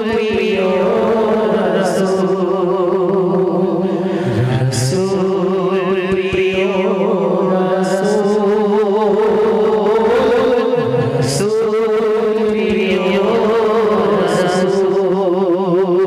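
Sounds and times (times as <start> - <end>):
held drone note: 0.0 - 16.0
men singing devotional song: 0.0 - 16.0.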